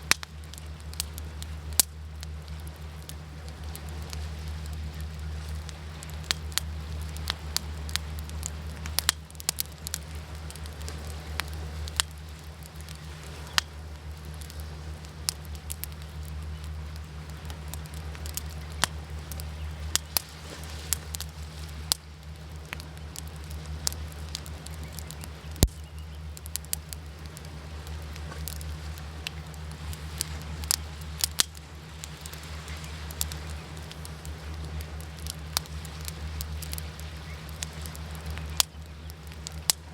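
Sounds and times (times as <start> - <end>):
waves rumbling: 0.0 - 38.7
wood fire crackling: 0.0 - 39.9.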